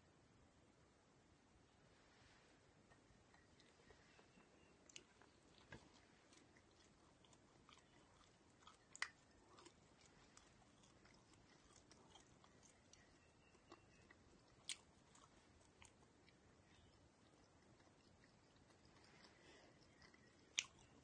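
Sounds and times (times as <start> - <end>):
chewing crunchy snack: 3.2 - 21.0.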